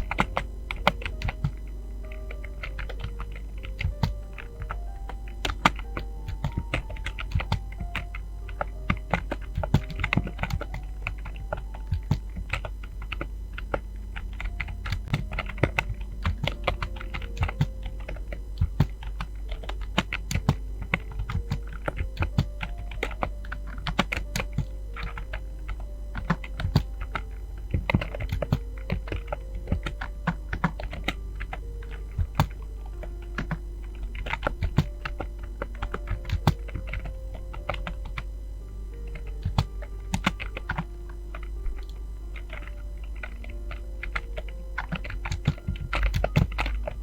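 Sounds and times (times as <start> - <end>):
fast typing on keyboard: 0.0 - 38.3, 39.0 - 47.0.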